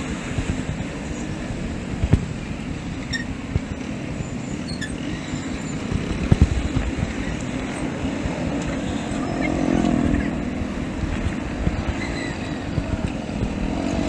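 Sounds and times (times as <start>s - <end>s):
motorcycle traffic: 0.0s - 14.0s
rumble of bike tyres: 0.0s - 14.0s
wind buffeting microphone: 0.0s - 14.0s.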